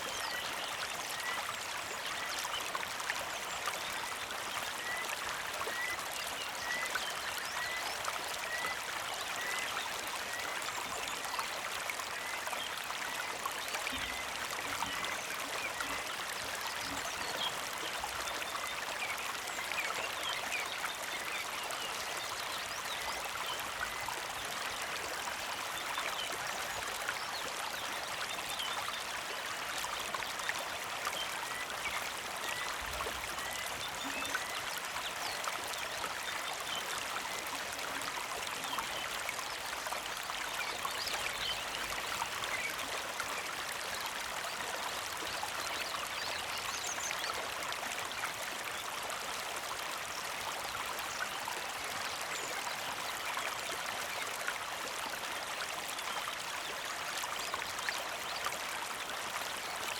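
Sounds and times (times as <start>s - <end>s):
creek flowing and trickling: 0.0s - 59.9s.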